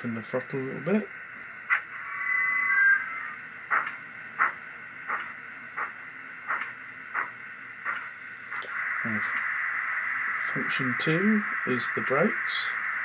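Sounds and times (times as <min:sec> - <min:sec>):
slow steam exhaust chuffs: 0:00.0 - 0:13.0
steam hiss: 0:00.0 - 0:13.0.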